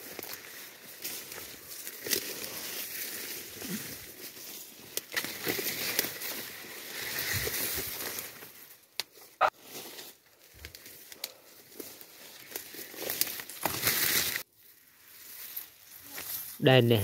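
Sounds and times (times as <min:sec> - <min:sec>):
grass and leaves rustling: 0:00.0 - 0:17.0.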